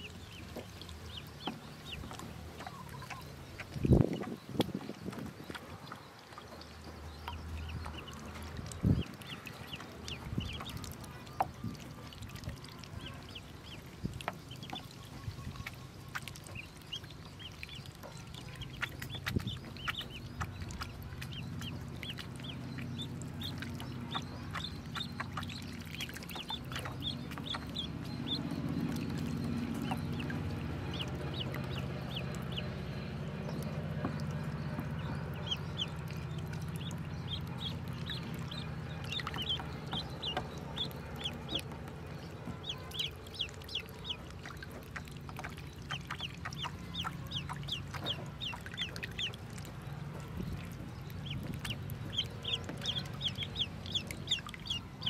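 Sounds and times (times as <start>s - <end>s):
ducklings peeping: 0.0s - 55.0s
low background rumble: 0.0s - 55.0s.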